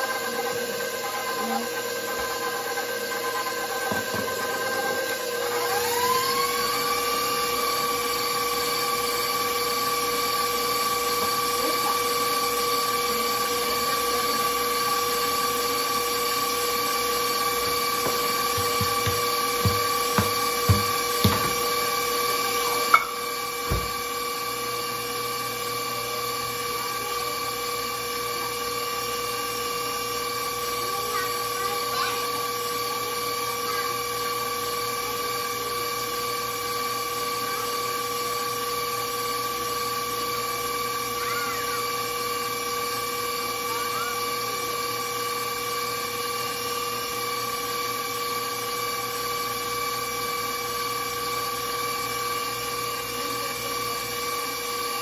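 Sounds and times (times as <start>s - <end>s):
stand mixer motor whining: 0.0s - 55.0s.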